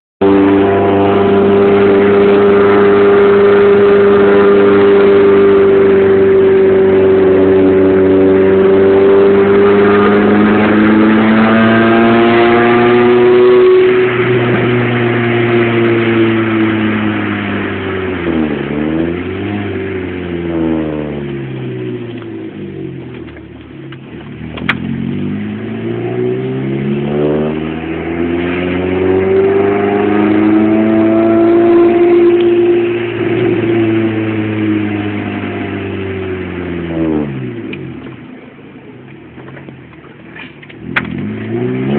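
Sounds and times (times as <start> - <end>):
loud car engine revving: 0.2 - 38.3, 40.4 - 41.9.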